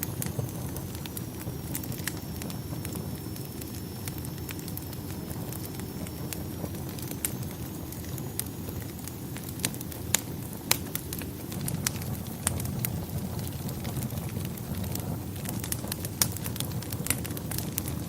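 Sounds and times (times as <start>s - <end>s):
low steady rumble: 0.0s - 18.0s
wood fire crackling and popping: 0.0s - 18.0s.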